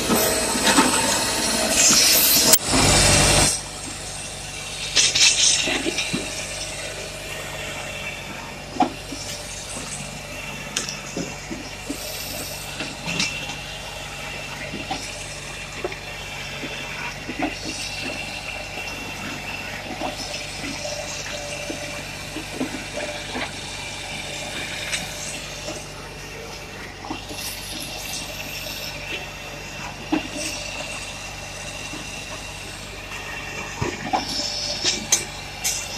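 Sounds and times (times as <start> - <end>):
firewood processor engine hum: 0.0 - 35.9.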